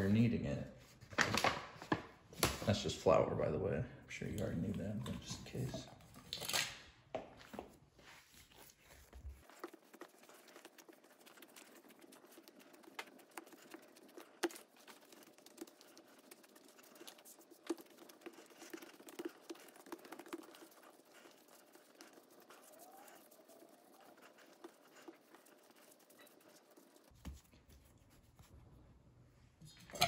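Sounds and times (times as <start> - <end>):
dough kneaded by hand: 4.2 - 29.2.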